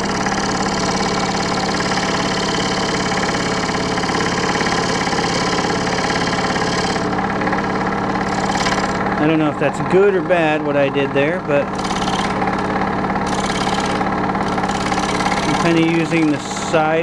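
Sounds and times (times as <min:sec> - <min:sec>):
scroll saw cutting wood: 0:00.0 - 0:09.4, 0:11.2 - 0:17.0.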